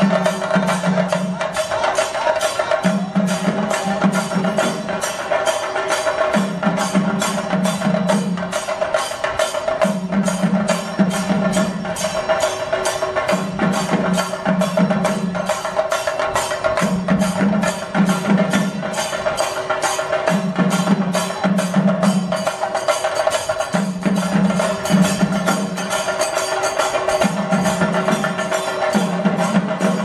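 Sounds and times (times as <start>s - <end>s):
drums beaten with sticks: 0.0s - 30.0s
hand cymbals ringing: 0.0s - 30.0s.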